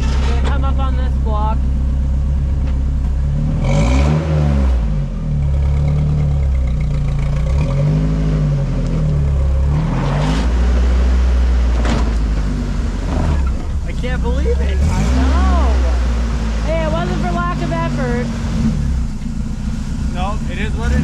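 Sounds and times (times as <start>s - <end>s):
engine revving under load: 2.6s - 21.0s.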